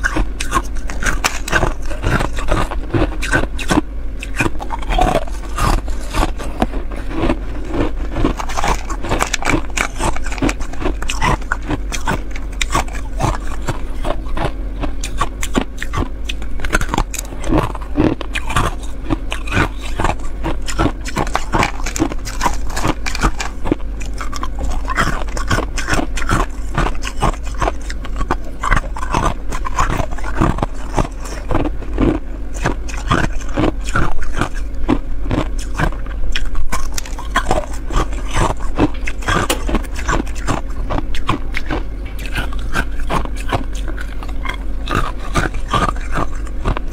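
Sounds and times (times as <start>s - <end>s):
ice crunching between teeth: 0.0s - 46.9s
steady low hum: 0.0s - 46.9s.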